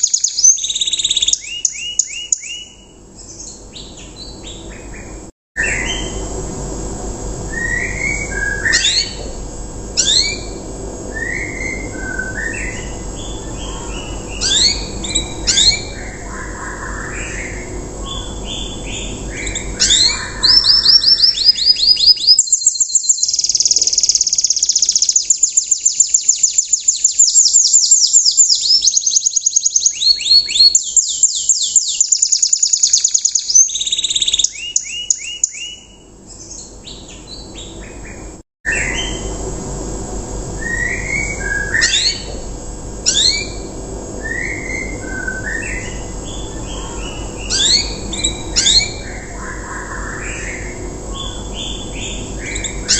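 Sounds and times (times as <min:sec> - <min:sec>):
canary singing: 0:00.0 - 0:06.4, 0:07.5 - 0:09.4, 0:10.0 - 0:39.4, 0:40.6 - 0:42.4, 0:43.0 - 0:52.9.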